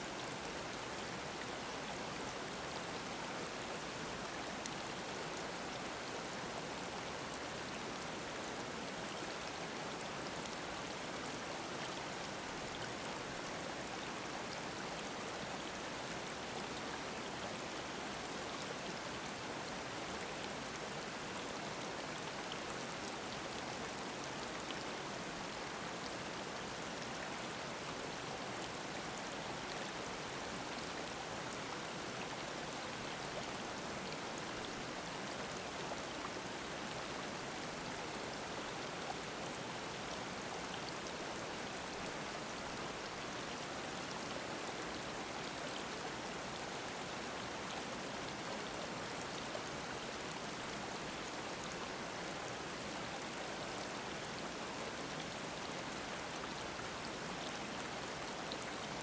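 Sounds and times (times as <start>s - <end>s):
mountain stream babbling: 0.0s - 59.0s.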